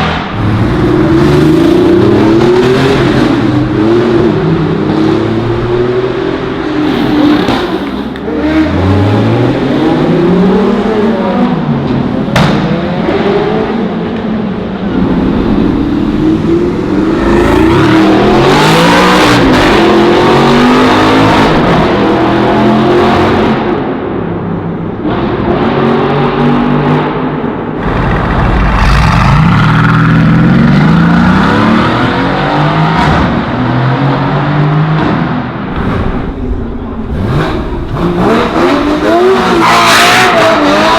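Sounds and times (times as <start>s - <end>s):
sports car engines revving: 0.0s - 40.9s.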